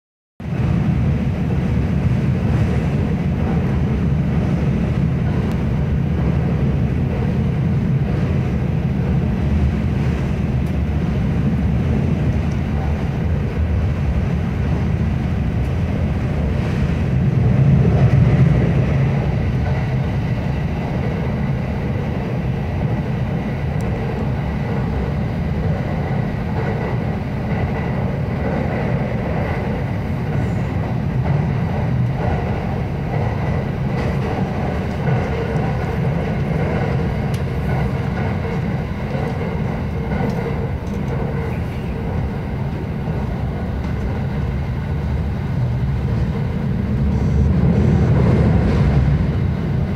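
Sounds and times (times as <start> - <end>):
train wheels rumbling on rail: 0.4 - 49.9.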